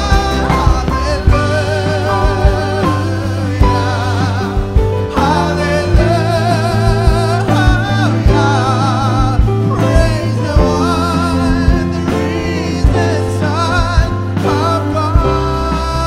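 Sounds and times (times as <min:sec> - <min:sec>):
bass: 0:00.0 - 0:16.0
drum beat: 0:00.0 - 0:16.0
guitar: 0:00.0 - 0:16.0
person singing: 0:00.0 - 0:16.0.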